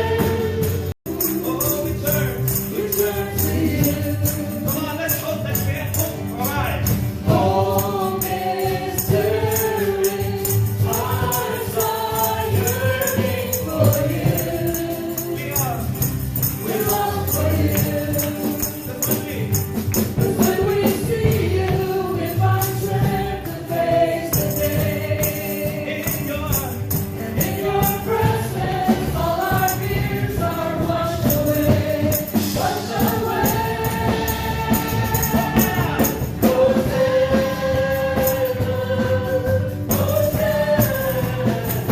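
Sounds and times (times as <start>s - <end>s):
band playing: 0.0s - 41.9s
congregation singing: 0.0s - 41.9s
tambourine beat: 0.0s - 41.9s.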